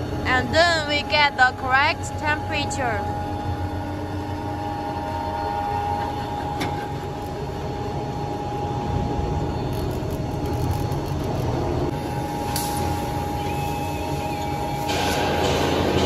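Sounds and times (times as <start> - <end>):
machine hum with high tone: 0.0 - 16.0.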